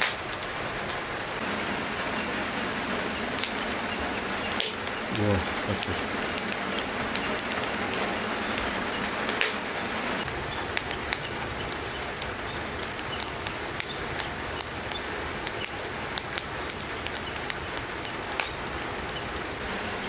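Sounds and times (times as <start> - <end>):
fire hissing: 0.0 - 20.0
wood fire crackling and popping: 0.0 - 20.0.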